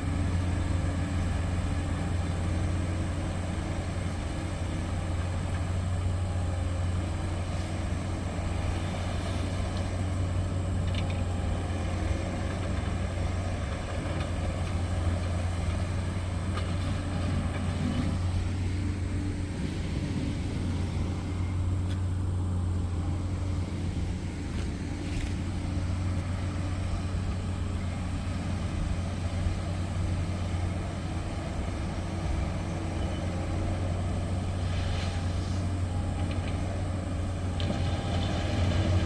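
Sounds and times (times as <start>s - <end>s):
heavy engines humming: 0.0s - 39.0s.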